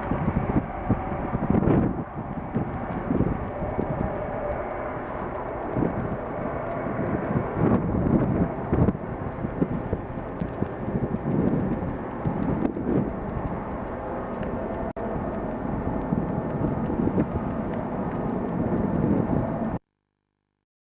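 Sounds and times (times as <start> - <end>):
jet engines rumbling: 0.0 - 19.8.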